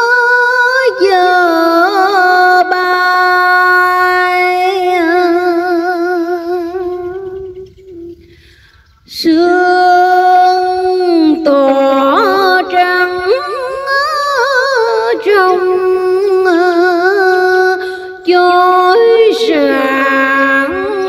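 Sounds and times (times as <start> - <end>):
woman chanting: 0.0 - 8.3, 9.1 - 21.0.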